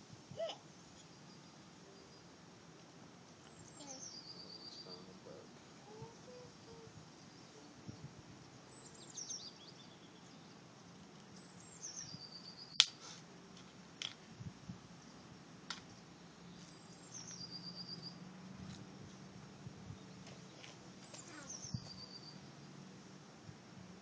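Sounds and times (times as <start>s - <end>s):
songbird singing: 0.0s - 23.2s.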